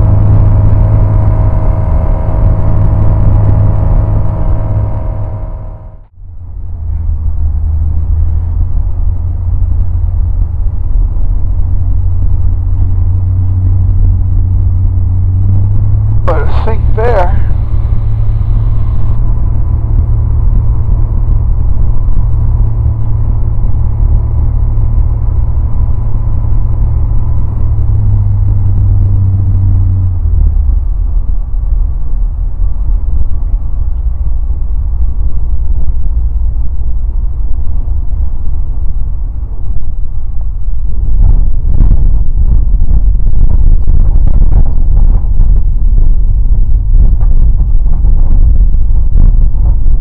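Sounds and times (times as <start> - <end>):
light aircraft engine droning: 0.0 - 50.0.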